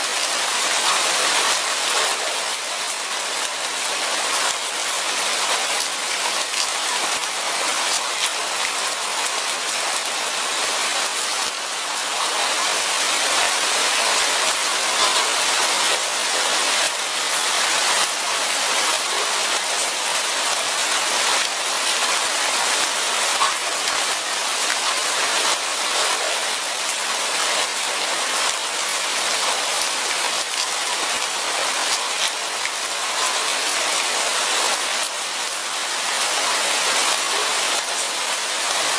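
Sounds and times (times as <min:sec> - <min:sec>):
steady rain in a forest: 0:00.0 - 0:38.9.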